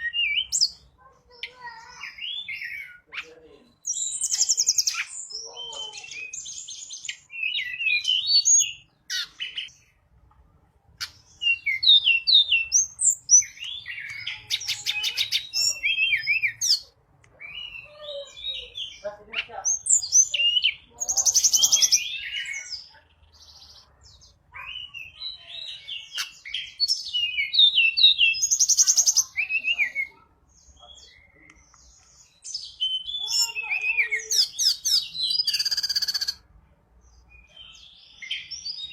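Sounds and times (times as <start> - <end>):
songbird singing whistles and trills: 0.0 - 0.8, 2.0 - 3.2, 3.8 - 9.7, 11.0 - 19.0, 19.7 - 22.9, 24.6 - 30.2, 31.0 - 36.4, 37.3 - 38.9.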